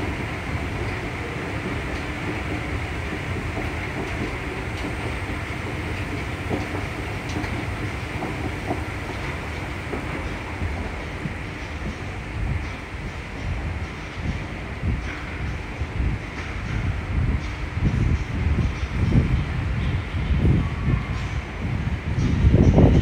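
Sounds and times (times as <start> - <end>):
low rumble and hum of station: 0.0 - 23.0.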